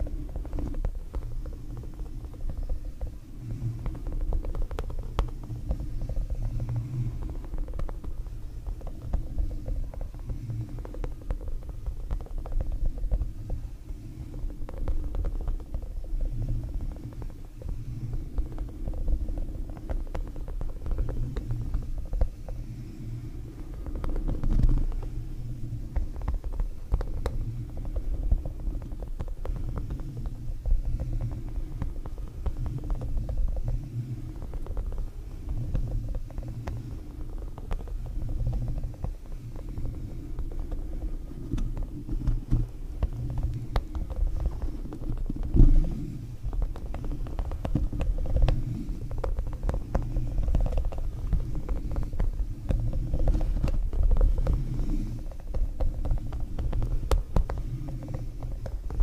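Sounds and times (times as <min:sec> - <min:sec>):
fingernails tapping microphone grille: 0:00.0 - 0:59.0
rubber spikes brushing microphone grille: 0:00.0 - 0:59.0.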